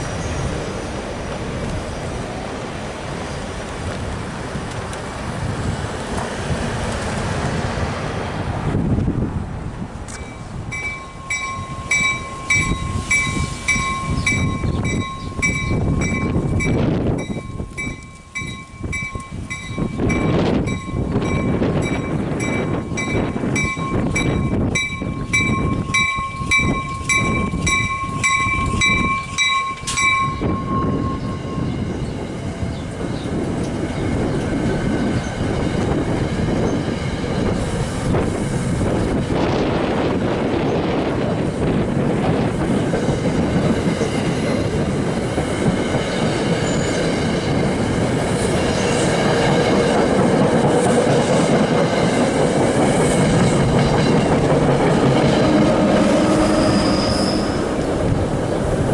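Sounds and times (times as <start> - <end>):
train rumble and rail clatter: 0.0 - 58.9.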